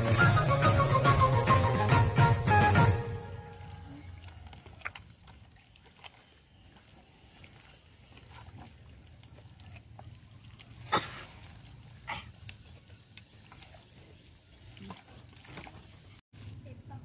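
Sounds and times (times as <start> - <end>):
hand squelching wet marinade: 3.1 - 16.9.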